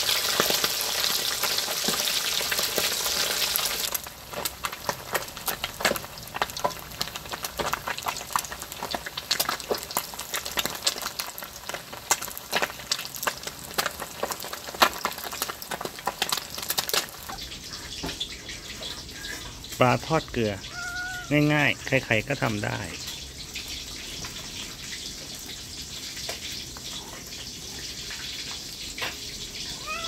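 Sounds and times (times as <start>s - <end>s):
fish sizzling in hot oil: 0.0s - 30.0s
oil crackling and popping: 0.0s - 30.0s.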